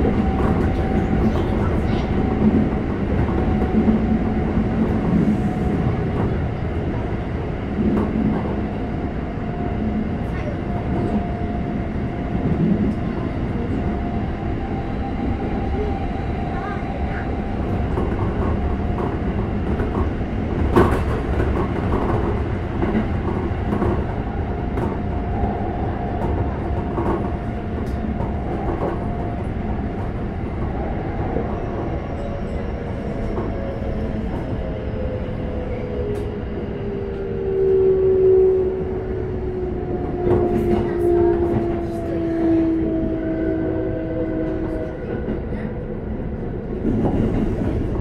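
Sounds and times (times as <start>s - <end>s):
train wheel-on-rail rumble: 0.0s - 48.0s.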